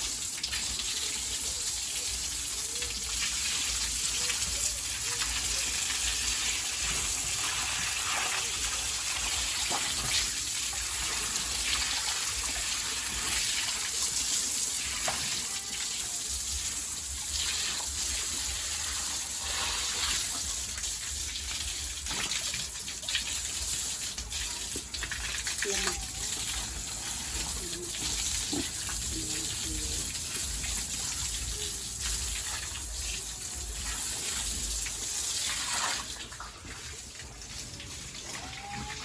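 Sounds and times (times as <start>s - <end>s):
running water rushing: 0.0s - 39.0s.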